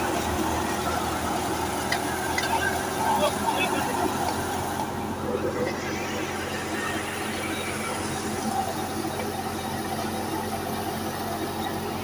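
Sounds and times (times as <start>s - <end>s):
low engine hum: 0.0s - 12.0s
thresher mechanical drone: 0.0s - 12.0s.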